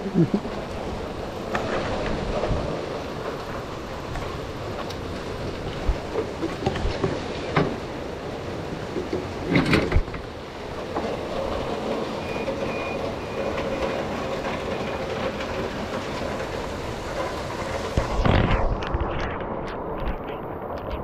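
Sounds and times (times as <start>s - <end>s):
bicycle rattling: 0.0s - 21.0s
bicycle tyres hissing on wet pavement: 0.0s - 21.0s
pouring rain: 0.0s - 21.0s.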